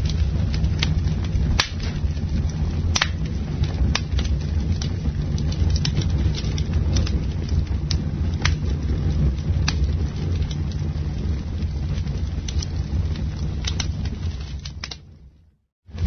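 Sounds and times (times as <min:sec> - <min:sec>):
campfire flames rumbling: 0:00.0 - 0:16.0
fire crackling and popping: 0:00.0 - 0:16.0.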